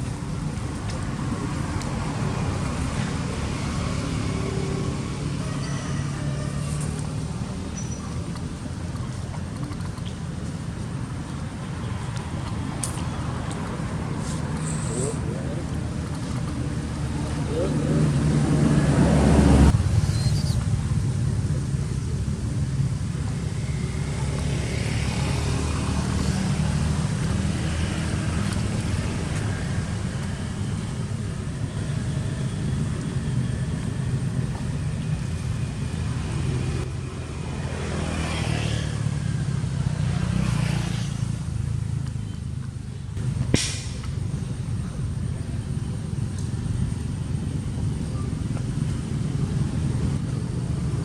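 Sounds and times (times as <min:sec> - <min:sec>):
low engine rumble: 0:00.0 - 0:37.9, 0:41.2 - 0:51.0.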